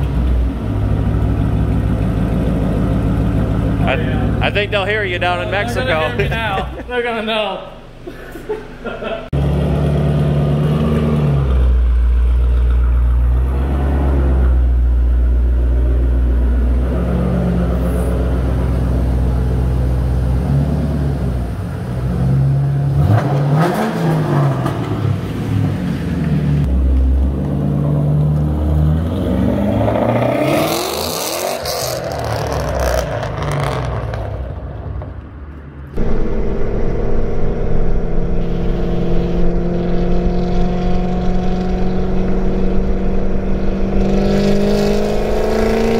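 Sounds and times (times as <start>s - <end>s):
car accelerating: 0.0s - 6.8s, 9.3s - 34.6s, 35.9s - 45.9s
car engine revving: 0.0s - 6.9s, 9.3s - 34.6s, 35.9s - 45.9s.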